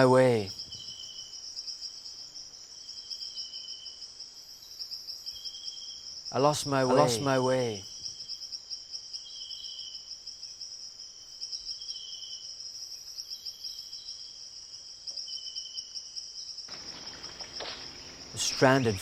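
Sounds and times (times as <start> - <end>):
insects chirring: 0.0 - 19.0
low insect trill: 0.0 - 19.0.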